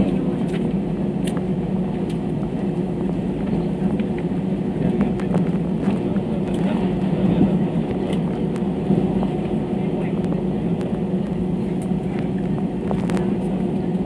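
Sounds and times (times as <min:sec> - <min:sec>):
jet engines droning: 0:00.0 - 0:14.0.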